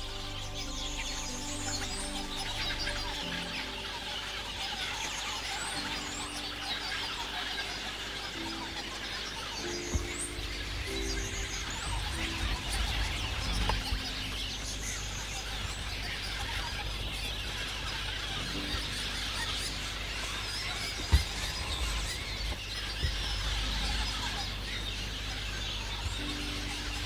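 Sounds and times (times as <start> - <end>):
birds chirping and calling: 0.0 - 27.0.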